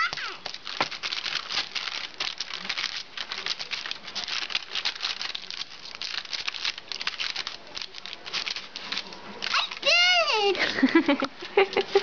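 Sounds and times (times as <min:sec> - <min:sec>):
baking sheet lining crinkling: 0:00.0 - 0:12.0
hands patting dough: 0:00.0 - 0:12.0.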